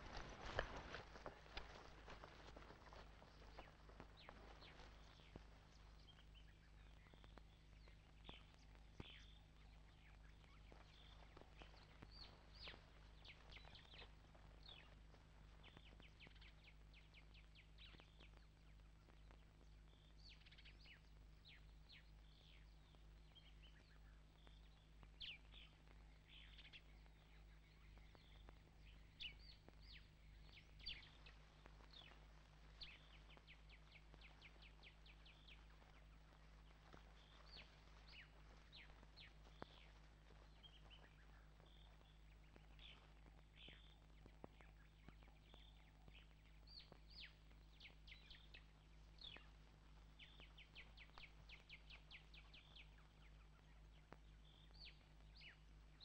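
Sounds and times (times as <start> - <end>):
low steady hum: 0.0 - 56.0
small birds chirping: 0.0 - 56.0.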